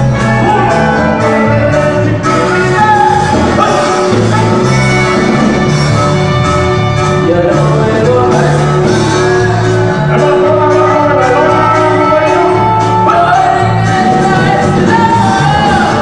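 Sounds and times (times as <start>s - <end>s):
button accordion: 0.0s - 15.9s
band playing latin dance music: 0.0s - 16.0s
drums: 0.0s - 16.0s
electric bass: 0.0s - 16.0s.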